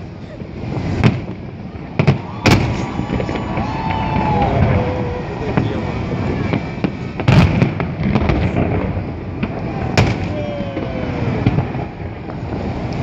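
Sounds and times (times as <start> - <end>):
small firework pops: 0.0 - 4.8, 6.4 - 13.0
firework bangs: 0.0 - 13.0.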